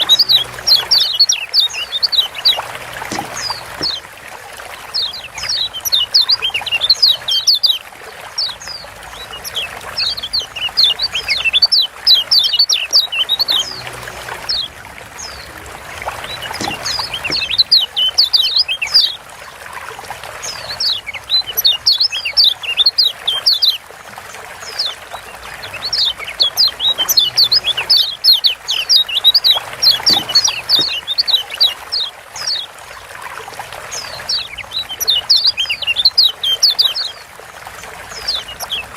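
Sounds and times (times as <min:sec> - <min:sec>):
bird chirping: 0:00.0 - 0:04.1, 0:04.9 - 0:07.8, 0:08.4 - 0:19.2, 0:20.4 - 0:23.8, 0:24.6 - 0:32.7, 0:33.9 - 0:37.2, 0:38.1 - 0:38.9
running water trickling: 0:00.0 - 0:38.9.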